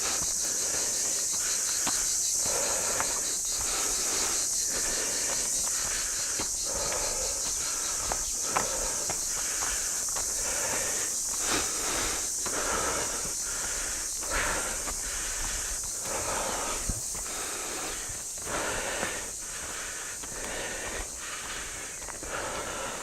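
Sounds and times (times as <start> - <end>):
person breathing heavily: 0.0 - 23.0
steady high hiss: 0.0 - 23.0.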